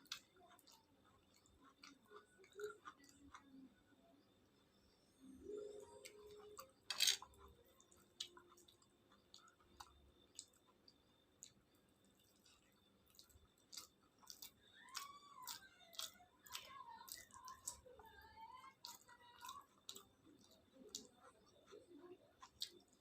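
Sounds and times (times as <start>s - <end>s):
person chewing food: 0.0s - 3.7s, 5.5s - 23.0s.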